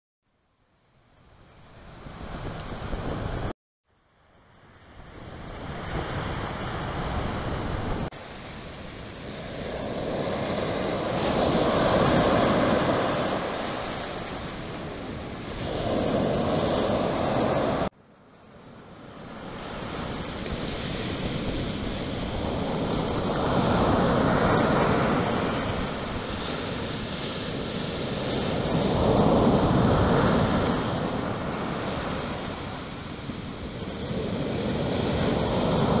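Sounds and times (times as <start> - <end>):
surf washing up a pebble beach: 5.0 - 17.9, 18.7 - 36.0.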